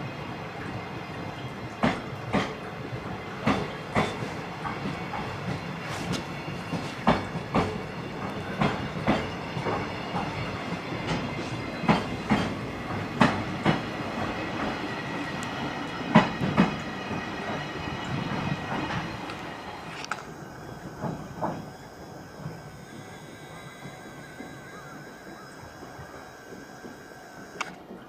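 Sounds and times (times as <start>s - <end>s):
freight train rolling rumble: 0.0s - 28.0s
train wheels clacking over rail joints: 1.7s - 28.0s.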